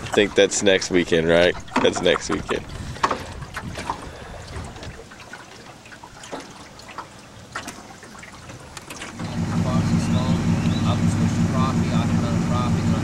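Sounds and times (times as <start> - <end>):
small water splashes: 0.0 - 12.7
water lapping against boat hull: 0.0 - 13.0.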